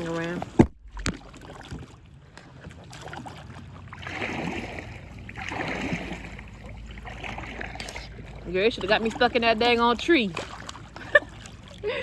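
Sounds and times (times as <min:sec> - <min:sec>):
paddle swishing through water: 0:00.0 - 0:12.0.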